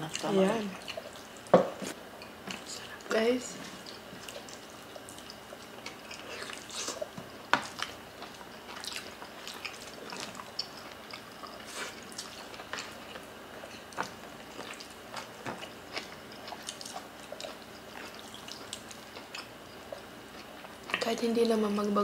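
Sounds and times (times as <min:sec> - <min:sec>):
people chewing food: 0:00.0 - 0:22.0.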